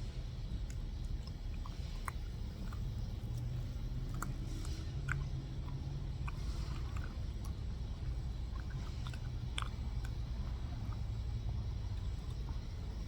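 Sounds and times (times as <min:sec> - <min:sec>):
person chewing food: 0:00.0 - 0:13.0
steady low rumble: 0:00.0 - 0:13.0.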